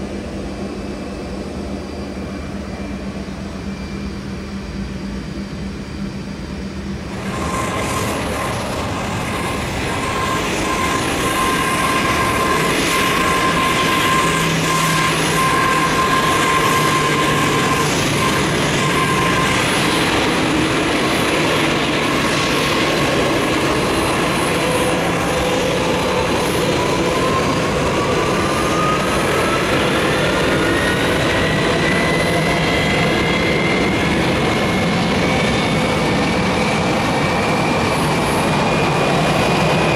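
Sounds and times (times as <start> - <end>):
jet engine spooling up: 0.0 - 39.9
jet engines running: 0.0 - 39.9.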